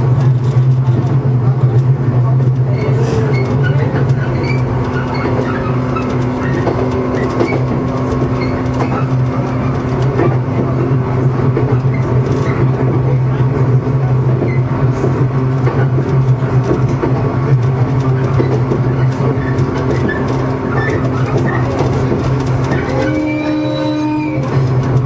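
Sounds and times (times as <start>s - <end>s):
electric train hum: 0.0s - 25.0s
rail noise: 0.0s - 25.0s.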